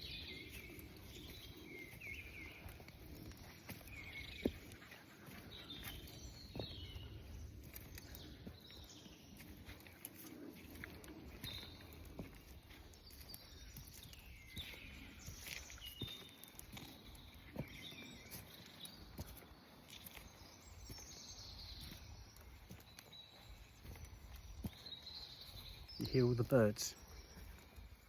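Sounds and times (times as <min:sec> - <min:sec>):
songbirds singing faintly: 0:00.0 - 0:28.0.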